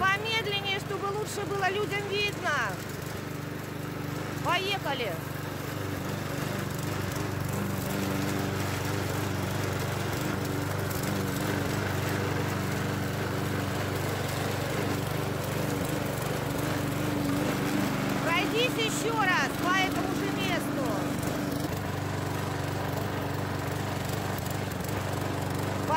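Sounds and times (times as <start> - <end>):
lawn mower running: 0.0 - 25.9.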